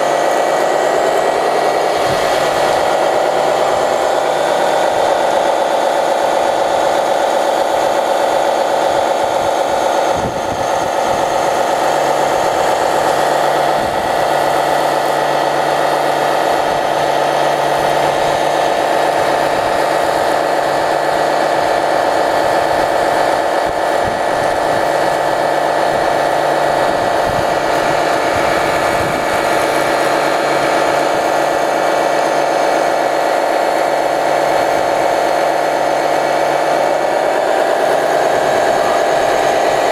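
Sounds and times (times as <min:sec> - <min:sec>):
small electric pump whining: 0:00.0 - 0:39.9.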